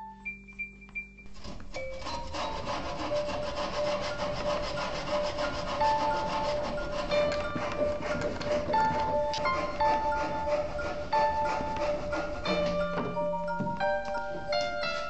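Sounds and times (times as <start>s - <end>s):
back saw cutting wood: 1.3s - 15.0s.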